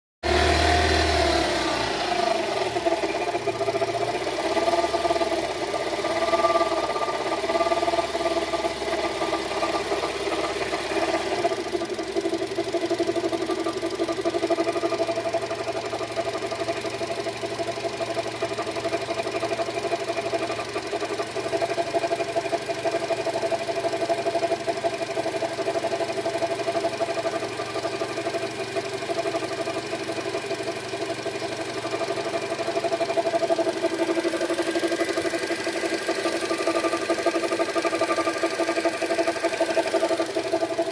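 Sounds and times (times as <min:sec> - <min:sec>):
petrol engine idling with knock: 0:00.3 - 0:40.9.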